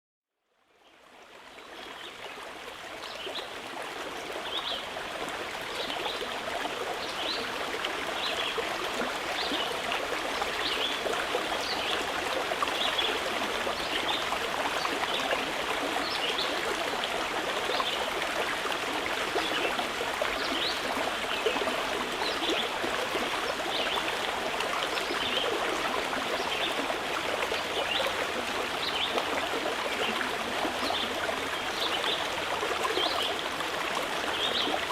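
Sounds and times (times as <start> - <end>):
mountain river flowing: 1.2 - 34.9.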